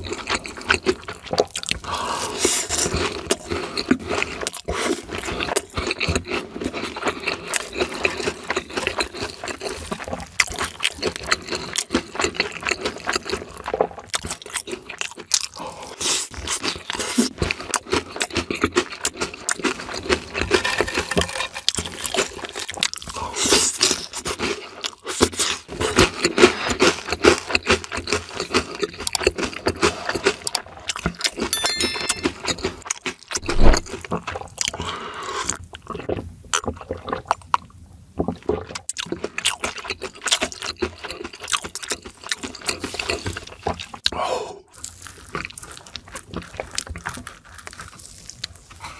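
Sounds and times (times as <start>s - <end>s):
crunchy food being chewed: 0.0s - 20.8s, 21.6s - 31.4s, 32.9s - 48.9s.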